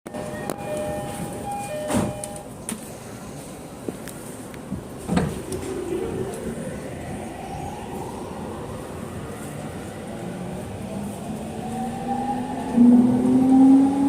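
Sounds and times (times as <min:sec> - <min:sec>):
train cabin rumble: 0:00.2 - 0:13.8.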